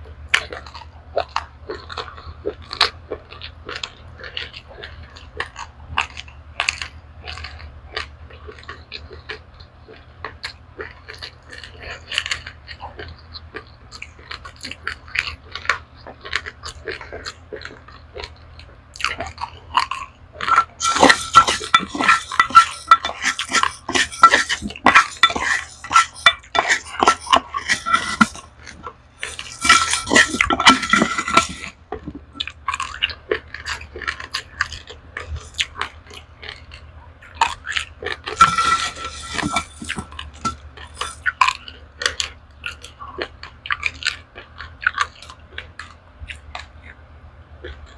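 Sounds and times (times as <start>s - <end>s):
crunching and chewing rice: 0.0s - 47.9s.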